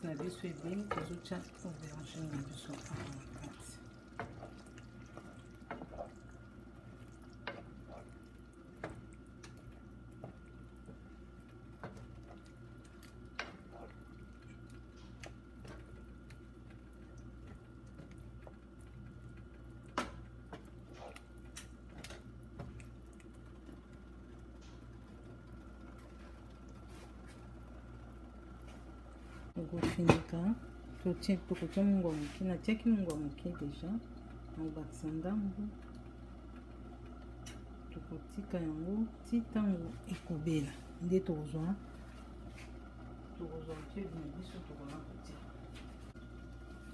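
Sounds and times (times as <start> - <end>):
sauce bubbling in a pot: 0.0 - 29.6, 30.5 - 43.4
faint steady hum: 0.0 - 46.9.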